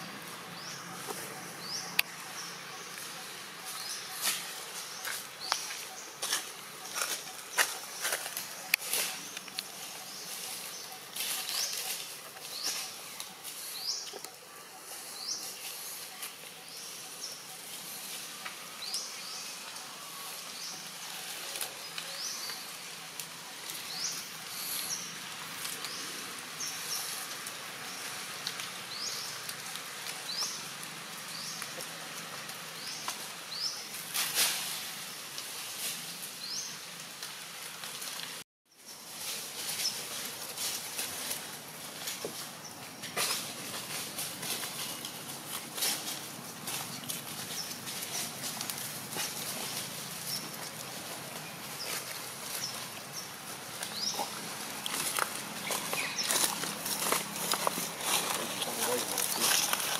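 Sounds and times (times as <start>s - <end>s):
dry leaves rustling and crackling: 0.0s - 59.9s.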